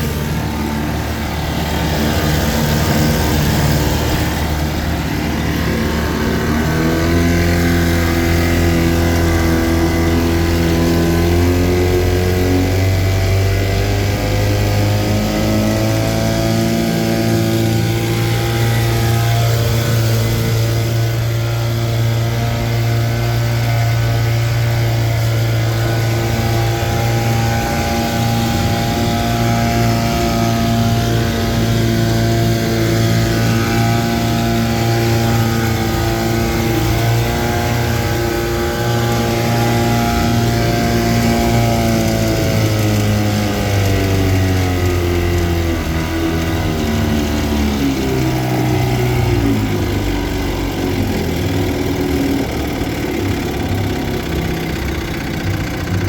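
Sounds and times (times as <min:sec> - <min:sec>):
outboard motor idling fast: 0:00.0 - 0:56.0.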